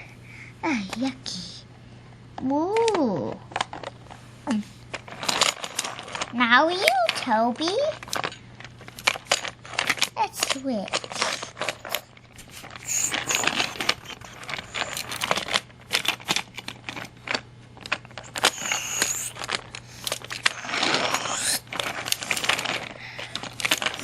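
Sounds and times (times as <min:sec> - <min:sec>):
toys clicking and rattling: 0:02.4 - 0:04.0, 0:04.9 - 0:24.0.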